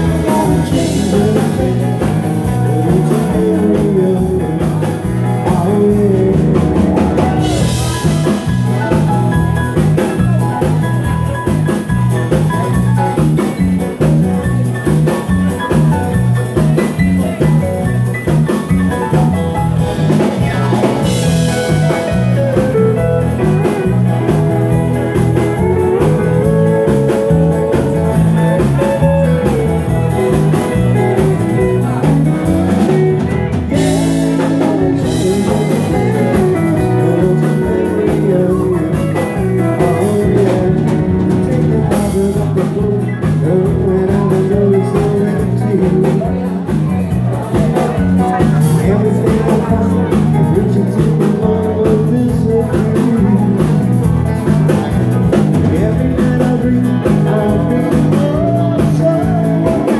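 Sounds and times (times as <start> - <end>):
drum kit: 0.0 - 59.9
electric guitar: 0.0 - 59.9
keyboards: 0.0 - 59.9.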